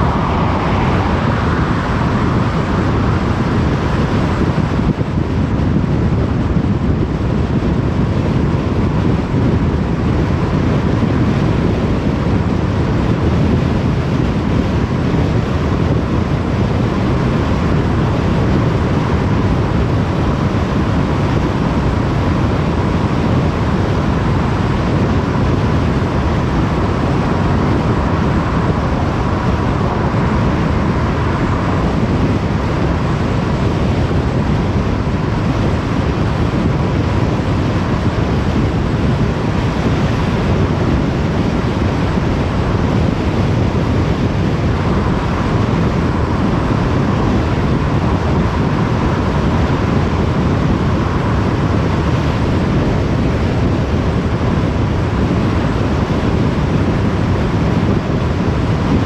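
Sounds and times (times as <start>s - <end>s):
car tyre and wind noise: 0.0s - 59.0s.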